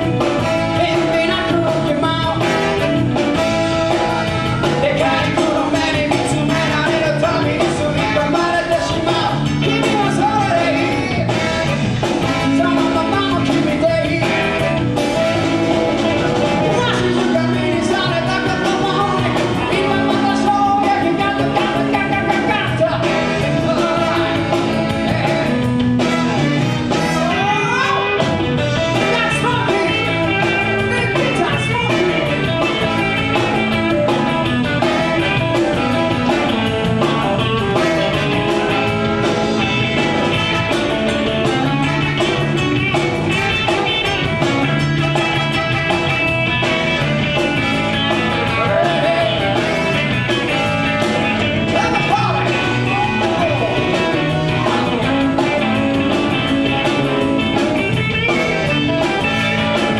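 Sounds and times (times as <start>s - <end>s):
live band playing rock and roll: 0.0s - 59.9s.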